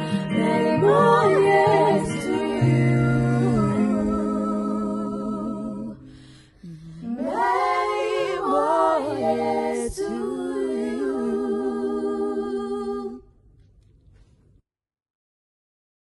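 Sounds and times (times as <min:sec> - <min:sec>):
women singing long held notes: 0:00.0 - 0:13.3.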